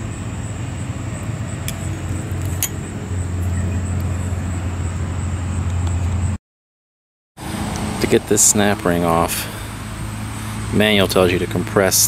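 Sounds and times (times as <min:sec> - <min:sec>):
low mechanical hum: 0:00.0 - 0:06.4, 0:07.4 - 0:12.0.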